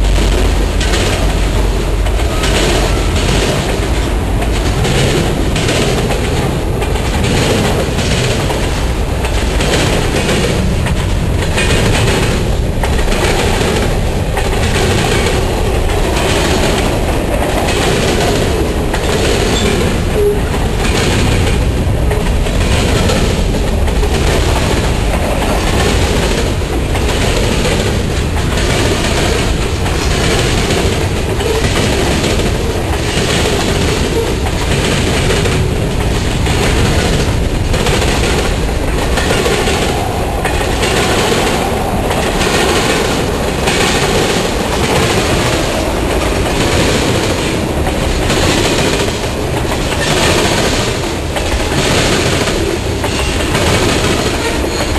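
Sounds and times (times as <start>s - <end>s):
freight train wheels clattering: 0.0s - 54.9s.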